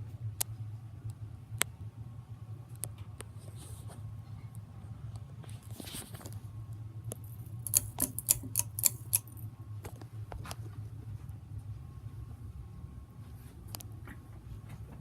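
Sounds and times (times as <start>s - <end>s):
ceiling fan humming: 0.0s - 15.0s
faint steady whine: 0.0s - 15.0s.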